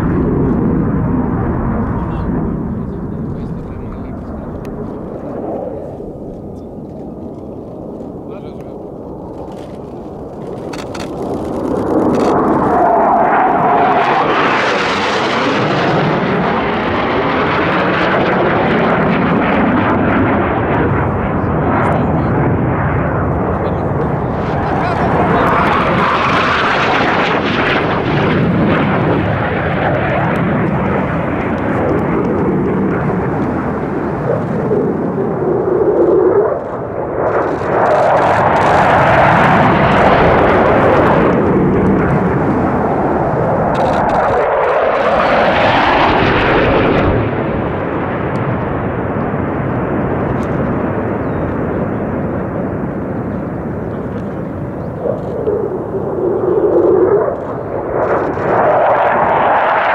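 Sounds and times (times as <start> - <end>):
fighter jet engines roaring: 0.0 - 59.9.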